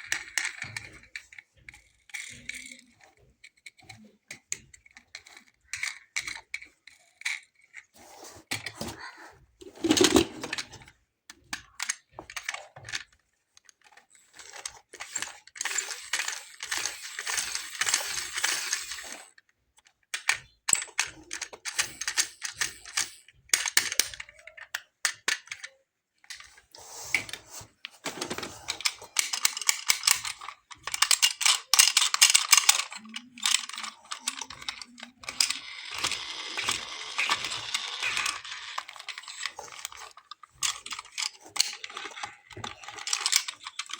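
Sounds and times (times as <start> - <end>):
toy cars rattling and clicking: 0.0 - 43.9.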